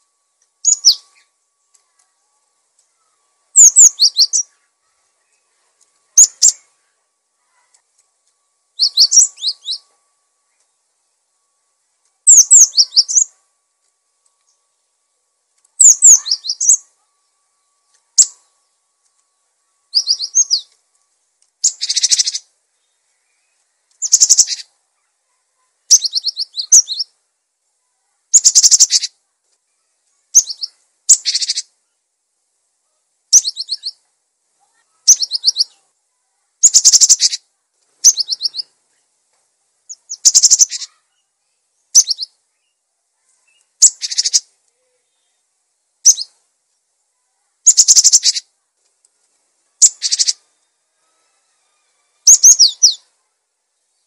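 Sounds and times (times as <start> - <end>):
bird singing high-pitched phrases: 0.0 - 7.8, 8.4 - 13.5, 14.3 - 20.8, 21.6 - 27.2, 27.8 - 32.0, 33.3 - 38.8, 39.9 - 46.4, 47.1 - 48.6, 49.8 - 51.5, 52.1 - 54.0.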